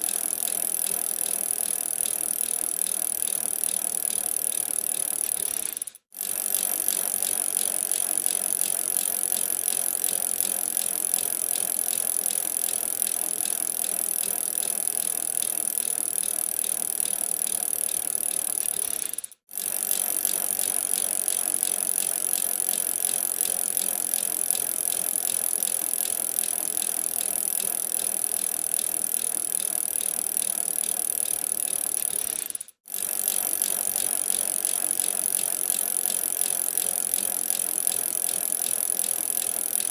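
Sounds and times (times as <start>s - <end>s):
bicycle chain ticking and rattling: 0.0s - 39.9s.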